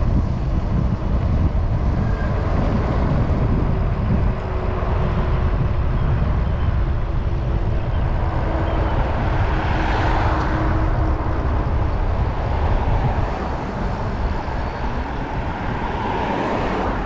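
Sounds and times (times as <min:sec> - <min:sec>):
passing traffic: 0:00.0 - 0:17.0
road noise: 0:00.0 - 0:17.0
wind buffeting microphone: 0:00.0 - 0:17.0.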